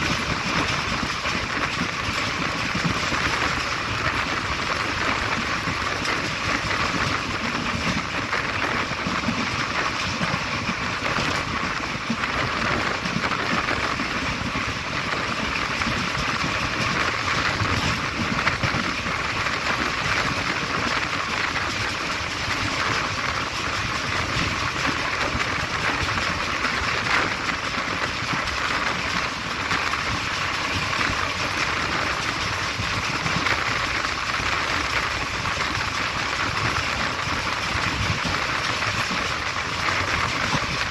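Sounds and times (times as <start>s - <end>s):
train wheels rushing on rails: 0.0s - 40.9s.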